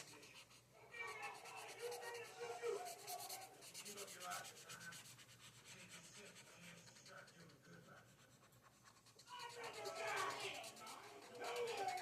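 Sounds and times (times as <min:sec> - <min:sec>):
pencil rubbing across paper: 0:00.0 - 0:12.0.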